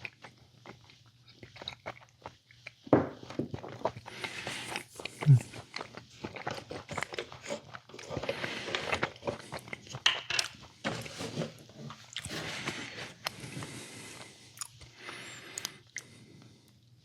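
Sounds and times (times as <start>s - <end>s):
person chewing crunchy food: 0.0s - 11.0s, 11.6s - 16.3s.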